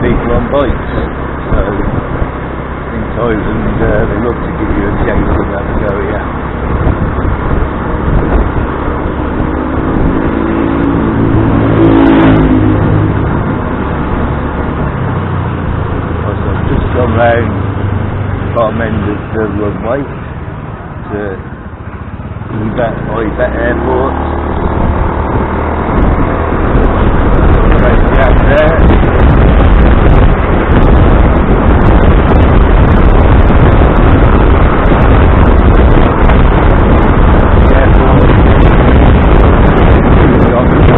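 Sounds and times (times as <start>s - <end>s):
road noise: 0.0s - 40.9s
vehicle engine passing: 0.0s - 40.9s
wind rumbling over microphone: 0.0s - 40.9s.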